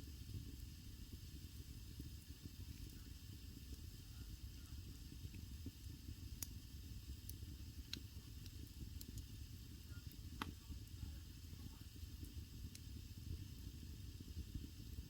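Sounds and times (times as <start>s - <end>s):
burning wood crackling: 0.0s - 15.0s
rumble of fire flames: 0.0s - 15.0s.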